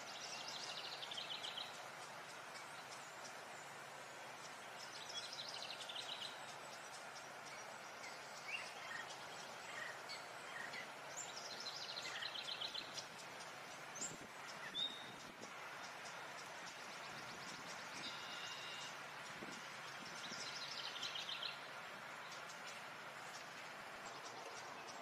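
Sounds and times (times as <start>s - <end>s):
birdsong trills and chirps: 0.0s - 25.0s
steady outdoor hiss: 0.0s - 25.0s.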